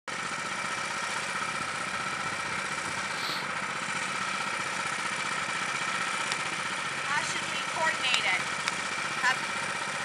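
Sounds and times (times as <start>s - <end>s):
go-kart engine idling: 0.1s - 10.0s.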